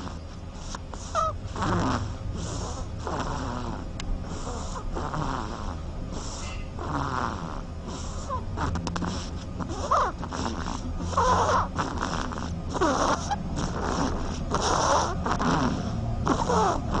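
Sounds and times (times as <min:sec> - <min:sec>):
duckling snoring: 0:00.0 - 0:17.0.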